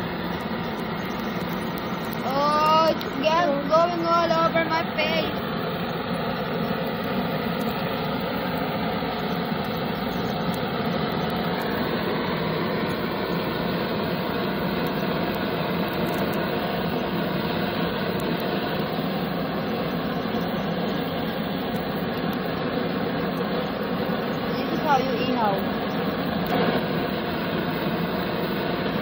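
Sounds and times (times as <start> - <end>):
flame gun hissing: 0.0 - 29.0.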